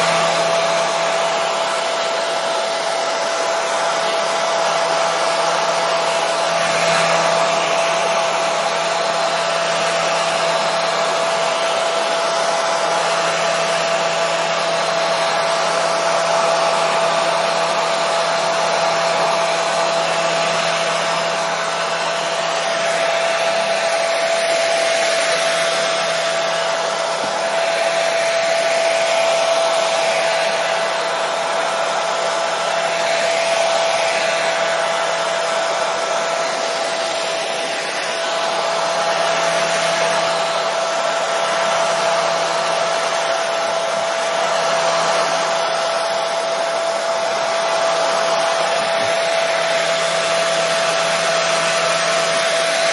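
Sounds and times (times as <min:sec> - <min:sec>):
hair dryer running: 0:00.0 - 0:52.9.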